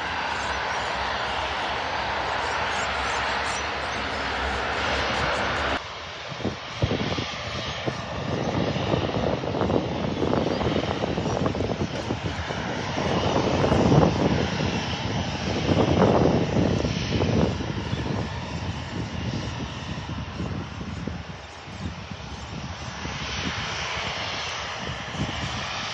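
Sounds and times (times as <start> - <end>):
distant jet engine taxiing: 0.0 - 25.9
wind buffeting microphone: 0.0 - 25.9.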